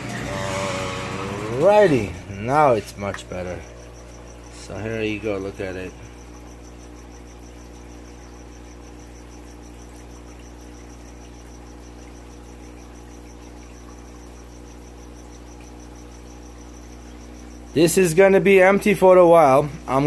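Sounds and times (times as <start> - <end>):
steady low hum: 0.0 - 20.0
high rapid pulsing chirp: 0.5 - 20.0.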